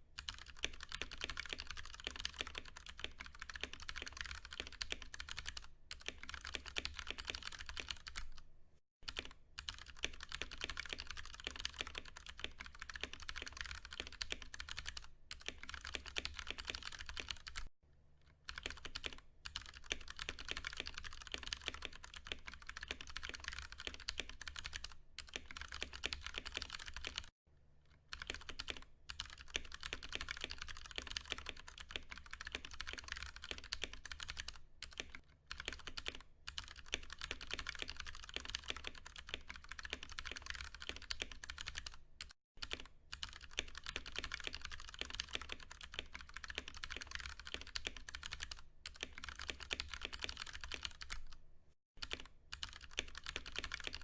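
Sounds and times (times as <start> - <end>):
mechanical keyboard typing: 0.2 - 8.4, 9.0 - 17.7, 18.5 - 27.3, 28.1 - 51.4, 52.0 - 54.0.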